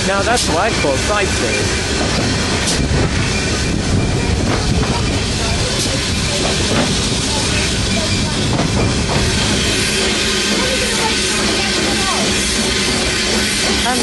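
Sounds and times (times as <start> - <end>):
railway carriage rumbling on track: 0.0 - 14.0.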